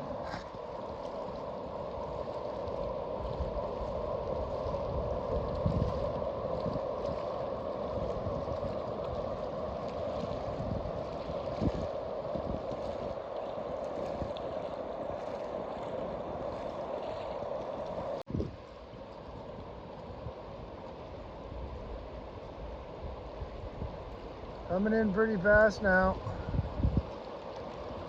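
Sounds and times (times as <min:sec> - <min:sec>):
river water rushing: 0:00.0 - 0:28.0
water gurgling: 0:00.0 - 0:28.0.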